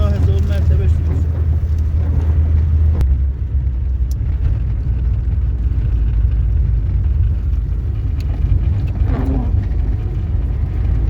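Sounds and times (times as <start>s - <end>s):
car rumbling: 0.0s - 11.0s.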